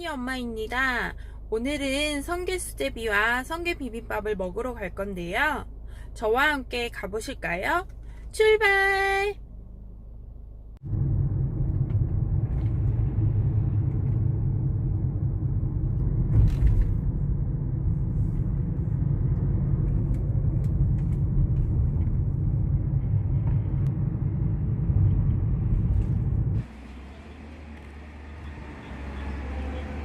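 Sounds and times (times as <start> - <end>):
car interior road and engine noise: 0.0 - 30.0.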